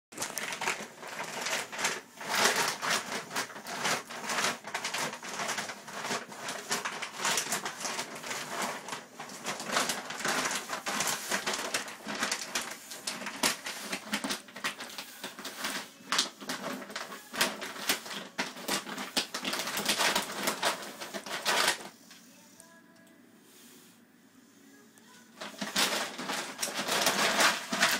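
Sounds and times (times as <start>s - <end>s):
plastic sack crinkling and rustling: 0.1s - 21.9s, 25.3s - 27.9s.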